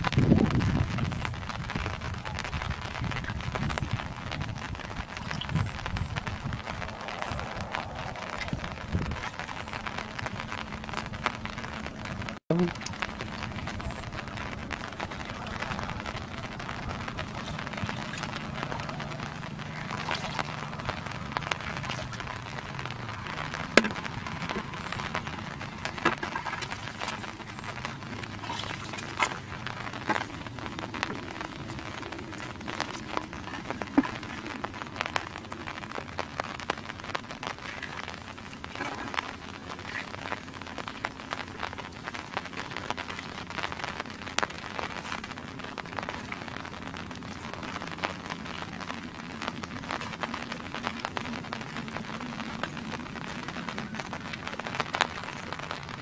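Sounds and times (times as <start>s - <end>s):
crackling clicks: 0.0s - 56.0s
water splashing in muddy pond: 0.0s - 56.0s.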